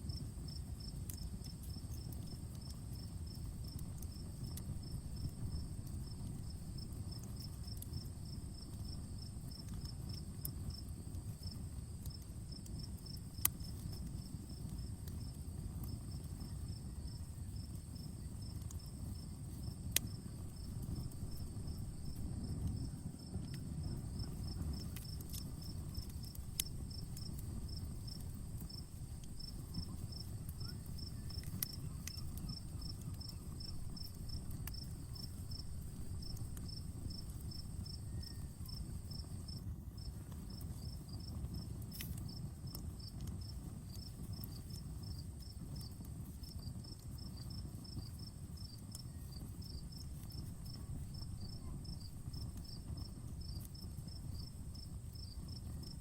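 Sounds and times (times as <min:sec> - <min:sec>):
campfire crackling: 0:00.0 - 0:56.0
cricket chirping: 0:00.1 - 0:56.0.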